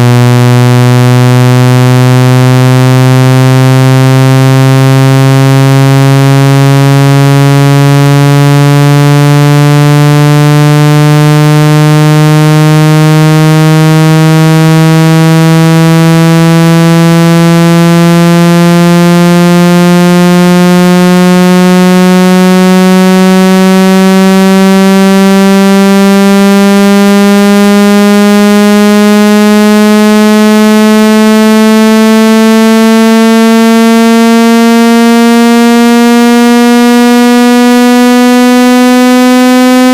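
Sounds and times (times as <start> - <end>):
low buzzy tone rising in pitch: 0.0 - 39.9.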